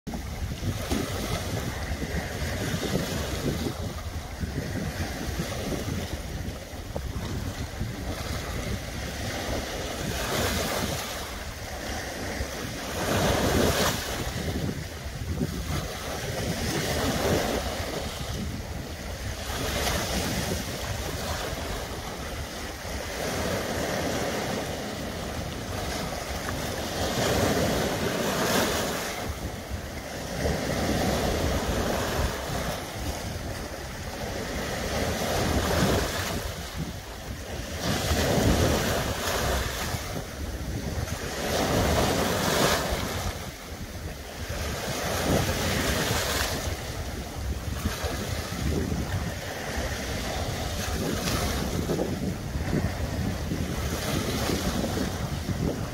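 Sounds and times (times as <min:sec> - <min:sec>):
waves washing over rocky shore: 0:00.1 - 0:55.9.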